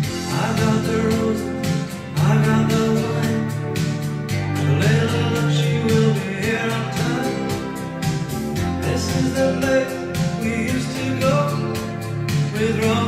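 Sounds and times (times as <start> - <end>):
song from vinyl record: 0.0 - 13.0.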